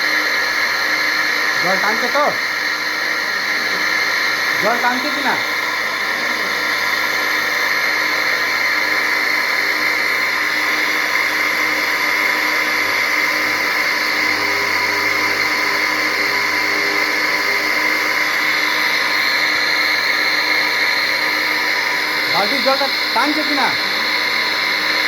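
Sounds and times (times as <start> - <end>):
electric water pump whining: 0.0 - 25.0.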